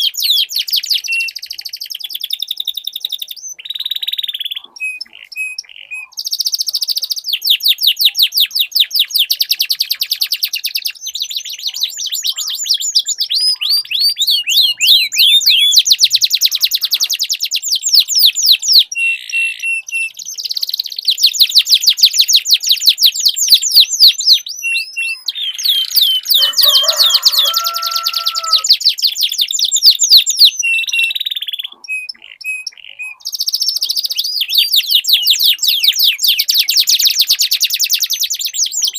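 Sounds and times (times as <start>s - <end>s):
canaries singing in trills: 0.0s - 38.9s.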